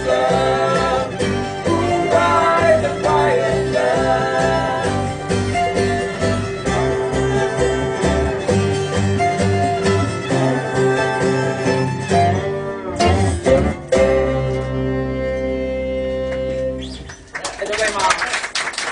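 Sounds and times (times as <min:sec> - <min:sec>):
bluegrass band playing: 0:00.0 - 0:17.1.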